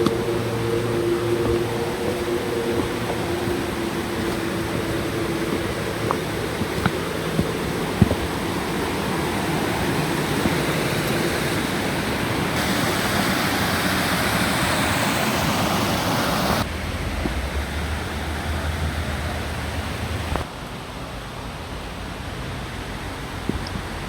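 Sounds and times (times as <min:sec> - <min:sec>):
water rushing in creek: 0:00.0 - 0:24.0.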